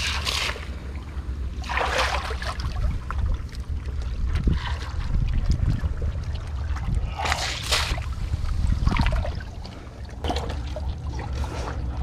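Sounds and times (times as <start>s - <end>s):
wind rumble on microphone: 1.0s - 12.0s.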